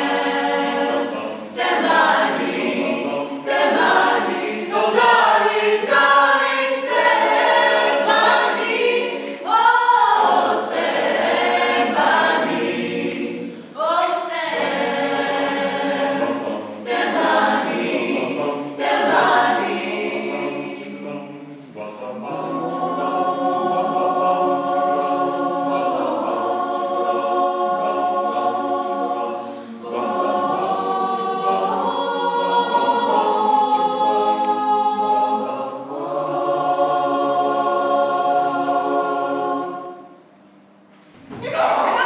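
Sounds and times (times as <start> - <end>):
mixed choir singing: 0.0 - 42.0.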